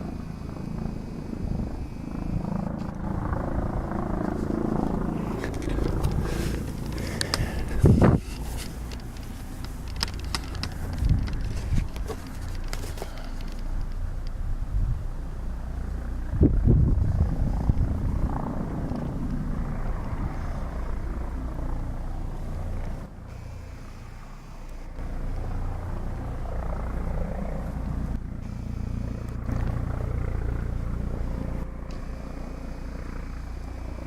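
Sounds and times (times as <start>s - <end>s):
helicopter rotor and engine drone: 0.0s - 34.0s.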